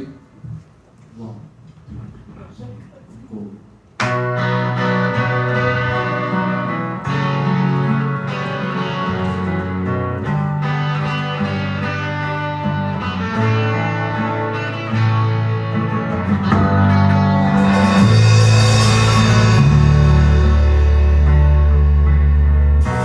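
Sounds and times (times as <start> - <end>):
bass line: 4.0 - 23.0
guitar chords: 4.0 - 23.0.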